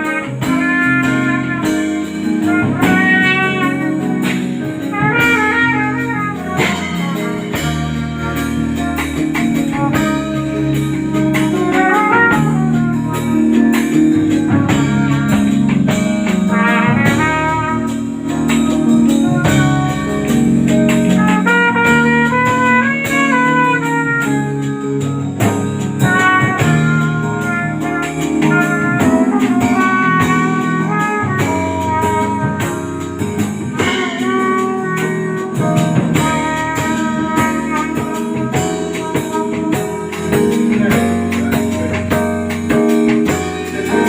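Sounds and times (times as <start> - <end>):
band playing instrumental: 0.0 - 44.0.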